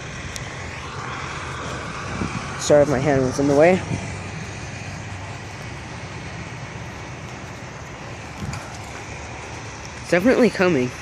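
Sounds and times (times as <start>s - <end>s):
distant engines and traffic: 0.0s - 11.0s.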